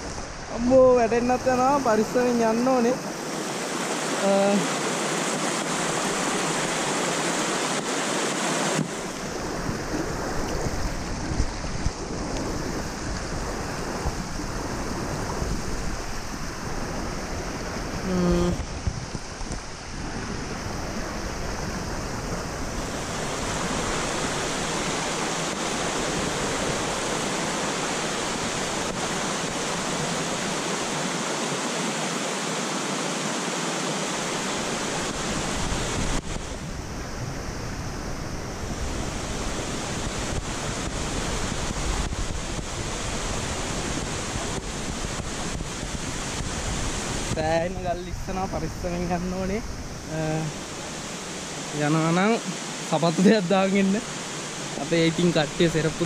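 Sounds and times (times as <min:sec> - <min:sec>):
wind rumbling on microphone: 0:00.0 - 0:52.9
stream water flowing: 0:00.0 - 0:56.0.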